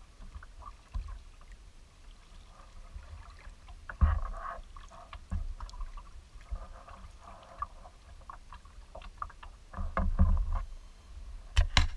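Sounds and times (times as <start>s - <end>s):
paddle splashing water: 0.0s - 10.6s.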